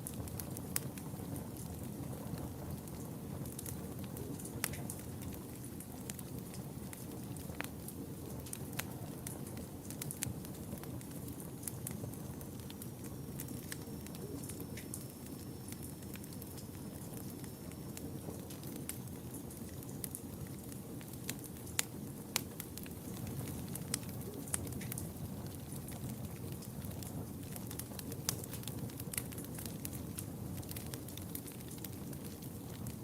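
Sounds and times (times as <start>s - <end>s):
fire popping: 0.0s - 33.0s
fire rumbling with crackles: 0.0s - 33.0s.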